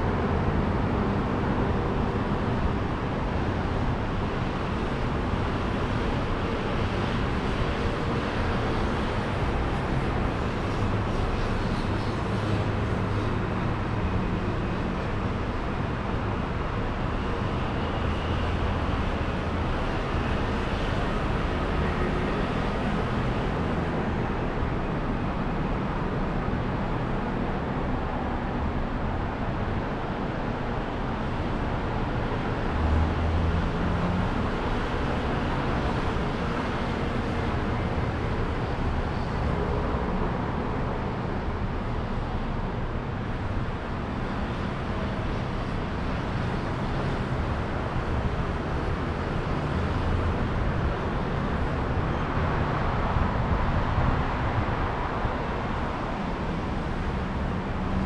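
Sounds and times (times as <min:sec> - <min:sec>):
low traffic rumble: 0:00.0 - 0:58.0
passing vehicles hum: 0:00.0 - 0:58.0.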